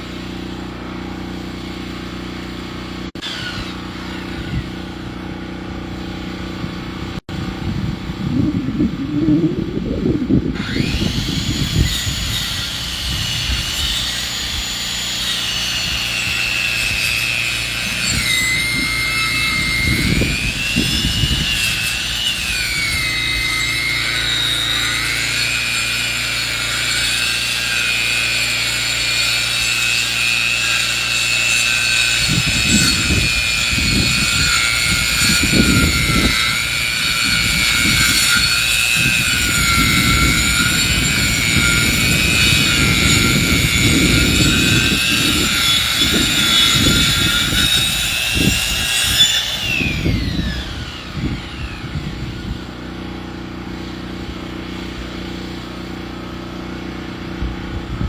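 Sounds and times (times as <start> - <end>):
sawmill cutting through log: 0.0 - 8.7, 9.6 - 58.0.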